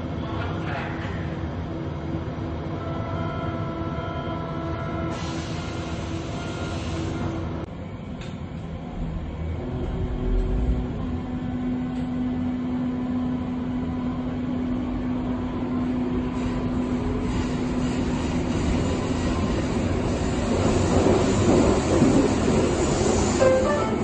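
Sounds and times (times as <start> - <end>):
train wheels rumbling on track: 4.7 - 24.0.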